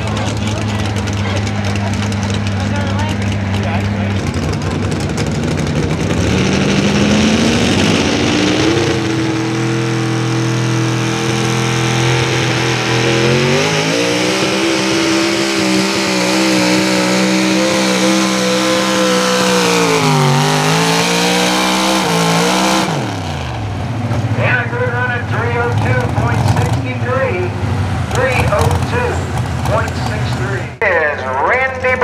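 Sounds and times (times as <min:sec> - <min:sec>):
truck engine at high revs: 0:00.0 - 0:31.0.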